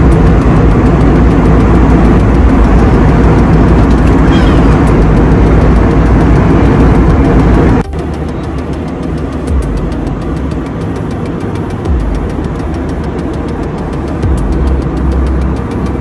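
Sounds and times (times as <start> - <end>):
jet engines: 0.0 - 16.0.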